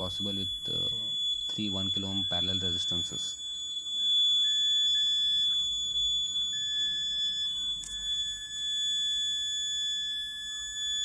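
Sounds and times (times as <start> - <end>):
electronic buzzer high tone: 0.0 - 11.0.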